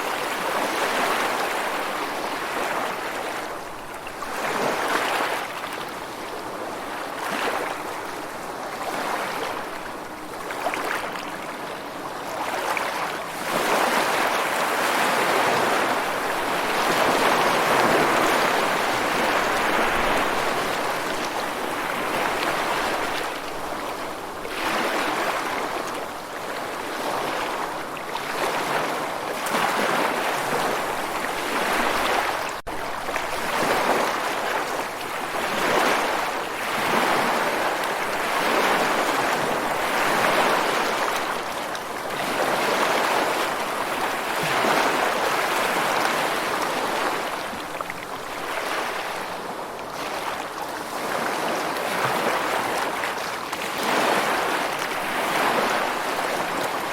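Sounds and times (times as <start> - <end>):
waves washing in: 0.0 - 56.9.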